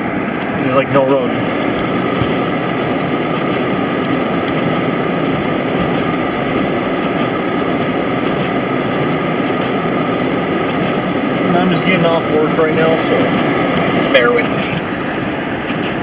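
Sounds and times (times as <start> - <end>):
car cabin road and engine noise: 0.0 - 16.0.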